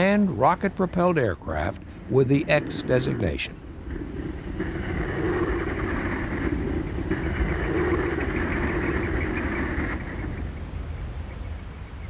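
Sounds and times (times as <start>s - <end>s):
engine droning: 0.0s - 11.8s.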